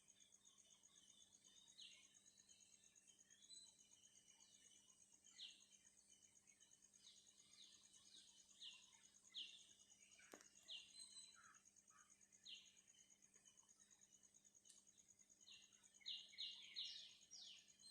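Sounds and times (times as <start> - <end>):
faint insect trill: 0.0 - 17.9.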